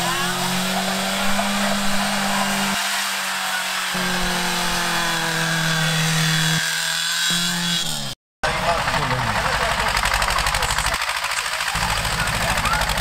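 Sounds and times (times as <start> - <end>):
buggy engine revving under load: 0.0 - 13.0
heavy mechanical noise: 0.0 - 13.0.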